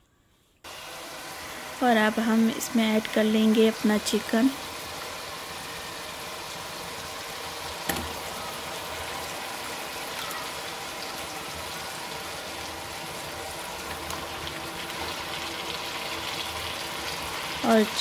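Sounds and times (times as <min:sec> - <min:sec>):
masala bubbling and sizzling: 0:00.6 - 0:18.0.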